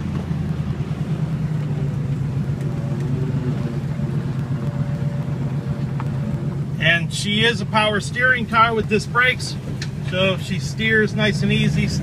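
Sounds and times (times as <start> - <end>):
car engine running from inside cabin: 0.0 - 12.0.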